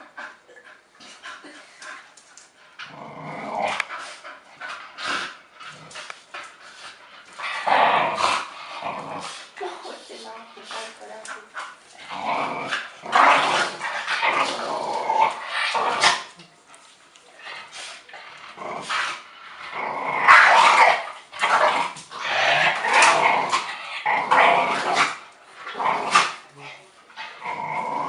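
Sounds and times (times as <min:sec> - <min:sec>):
dogs growling: 0:00.0 - 0:16.6, 0:17.3 - 0:28.0.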